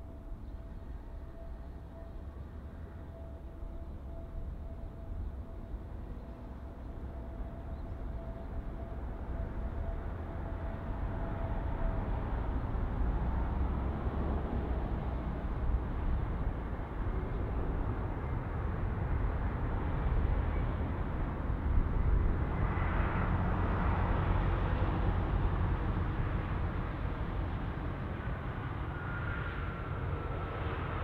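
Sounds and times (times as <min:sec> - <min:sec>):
faint engine whine: 0:00.0 - 0:31.0.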